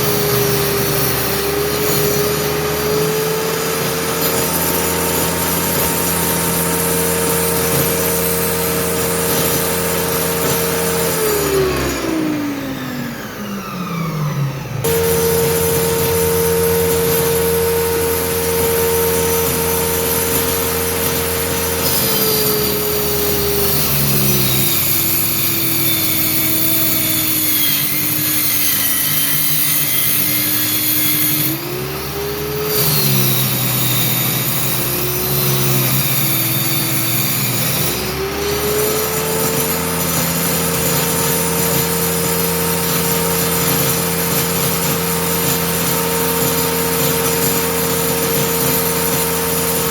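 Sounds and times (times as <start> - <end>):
circular saw cutting: 0.0 - 49.9.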